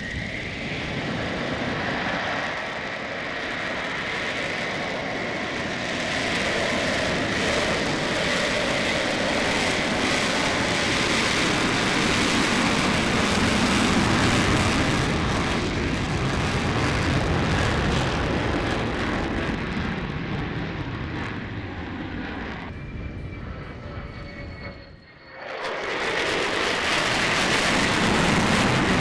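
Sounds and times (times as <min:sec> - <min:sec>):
jet engine roaring: 0:00.0 - 0:29.0.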